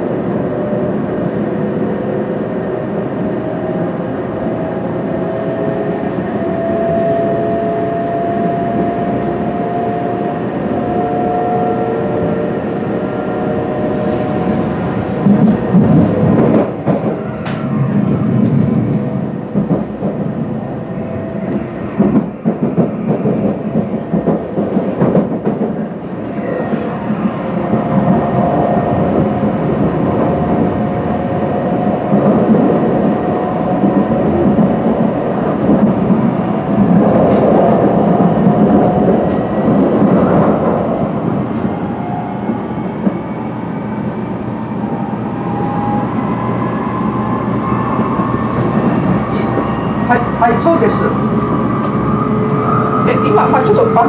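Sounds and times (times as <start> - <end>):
train running rumble: 0.0 - 43.3.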